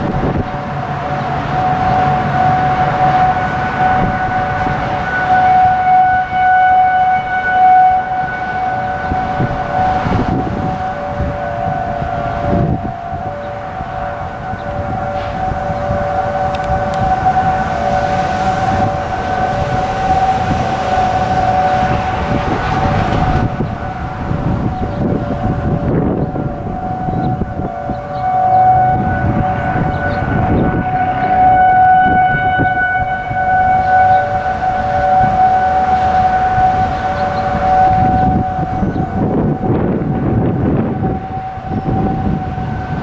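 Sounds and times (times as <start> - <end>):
low rumbling noise: 0.0 - 43.0
steady civil defense siren: 0.0 - 43.0.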